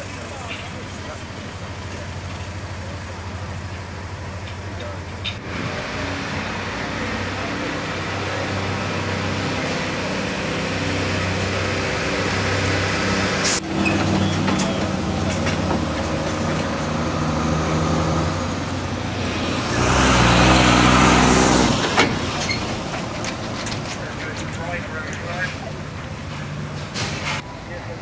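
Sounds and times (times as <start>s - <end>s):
lorry diesel engines running: 0.0s - 28.0s.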